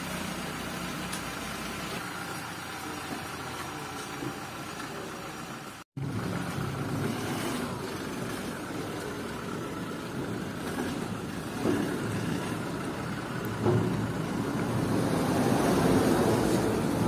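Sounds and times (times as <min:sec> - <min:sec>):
pickup truck engine running: 0:00.0 - 0:17.0.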